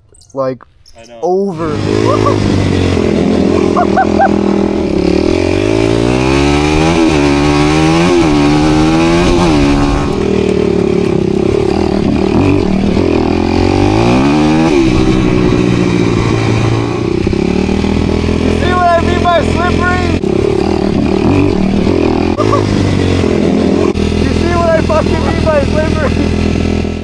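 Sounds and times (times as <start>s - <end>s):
dirt bike engine revving: 1.5s - 27.0s.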